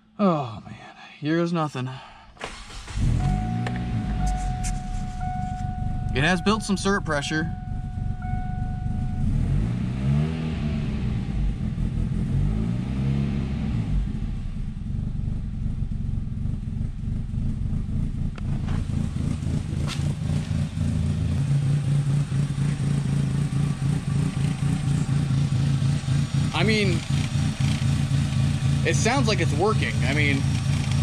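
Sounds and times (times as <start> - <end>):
car engine revving and running: 2.4 - 31.0.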